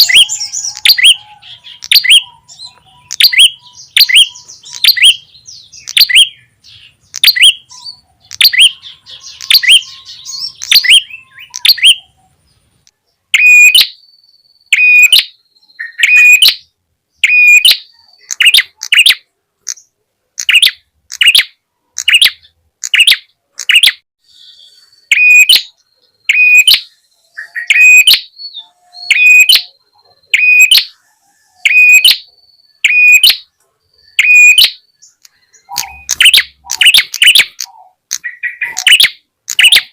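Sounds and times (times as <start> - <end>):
songbird sharp chirps: 0.0 - 39.9.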